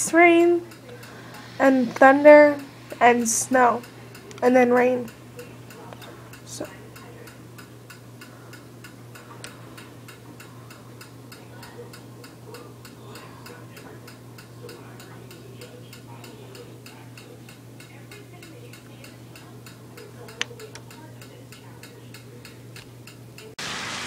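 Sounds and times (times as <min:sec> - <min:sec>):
steady low hum: 0:00.0 - 0:23.6
rapid mechanical ticking: 0:00.1 - 0:23.6.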